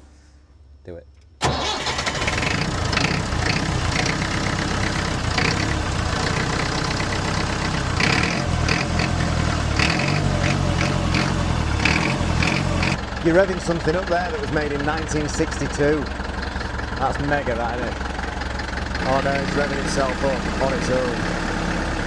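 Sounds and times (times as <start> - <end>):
diesel engine starting and running: 1.4 - 22.0
engine knocking: 1.5 - 22.0.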